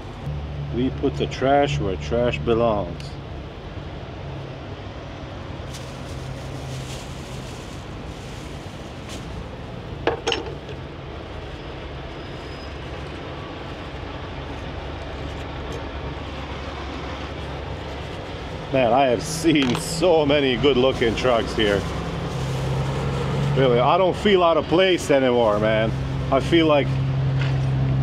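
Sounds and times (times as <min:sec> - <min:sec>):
diesel truck engines idling: 0:00.0 - 0:28.0.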